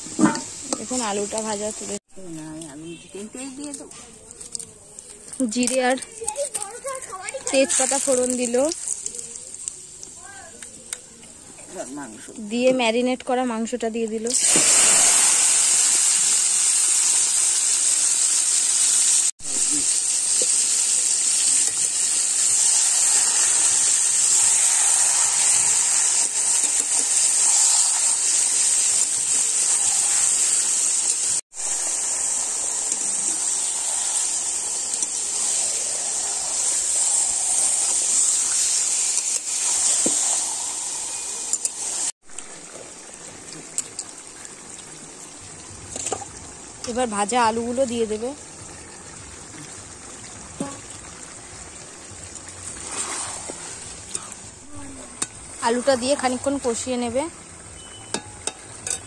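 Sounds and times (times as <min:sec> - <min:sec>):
chicken sizzling in hot oil: 0:00.0 - 0:03.8, 0:04.4 - 0:59.0.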